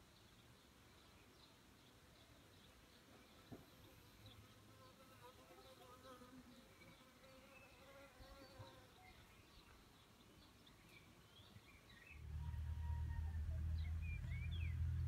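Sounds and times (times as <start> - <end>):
small birds chirping: 0.0 - 12.6, 13.2 - 15.0.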